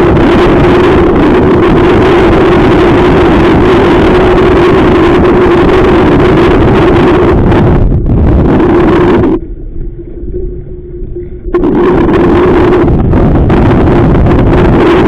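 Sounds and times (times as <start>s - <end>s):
boat motor humming: 0.0s - 15.0s
wind buffeting microphone: 0.0s - 15.0s.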